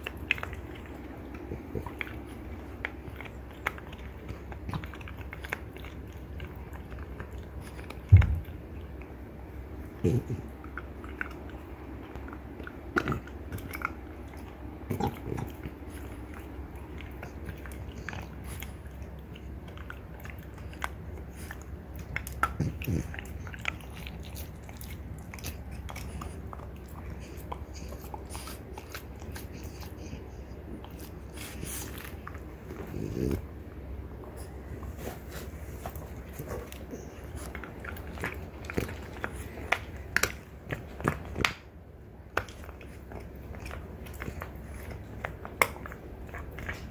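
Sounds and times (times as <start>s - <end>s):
dog gnawing an antler: 0.0s - 46.9s.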